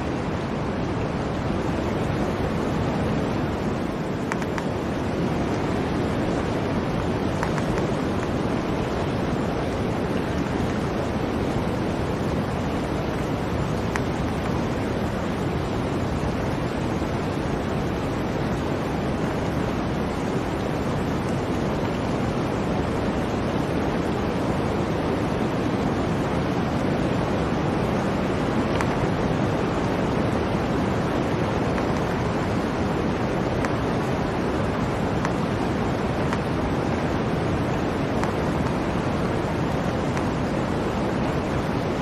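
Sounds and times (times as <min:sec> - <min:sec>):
blizzard wind blowing: 0:00.0 - 0:42.0.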